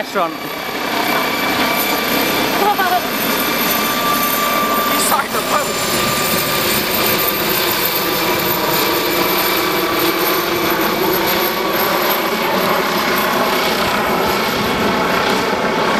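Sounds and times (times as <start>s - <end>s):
helicopter drone overhead: 0.0s - 15.9s.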